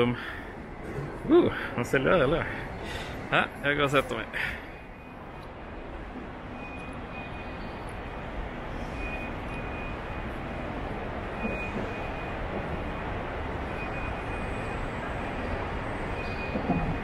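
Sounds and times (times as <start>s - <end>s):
airport terminal rumble: 0.0s - 17.0s.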